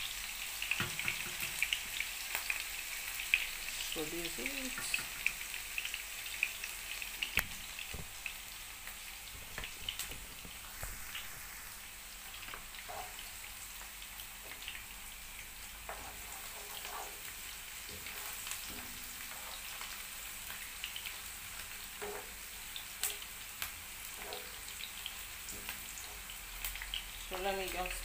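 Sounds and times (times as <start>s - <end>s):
onion sizzling in oil: 0.0s - 28.0s.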